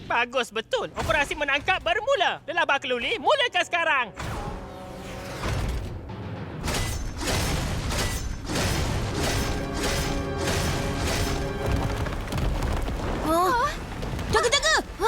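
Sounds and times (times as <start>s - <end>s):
dramatic action score: 0.0s - 15.0s.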